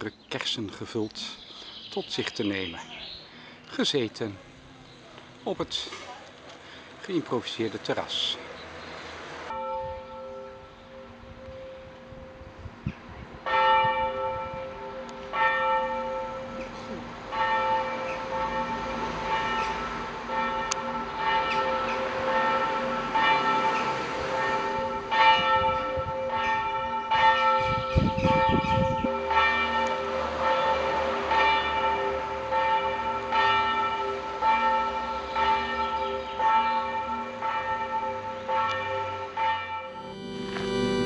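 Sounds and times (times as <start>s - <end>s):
church bells ringing: 0.8s - 41.0s.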